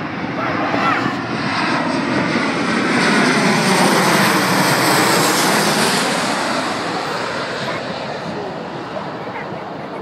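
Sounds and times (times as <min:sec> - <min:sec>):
jet airliner passing: 0:00.0 - 0:10.0.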